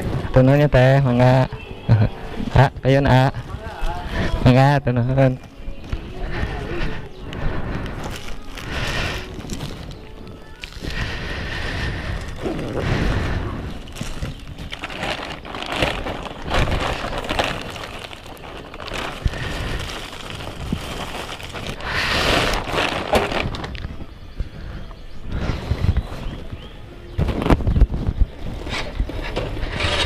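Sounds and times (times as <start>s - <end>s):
plastic bags rustling: 0.0s - 24.3s.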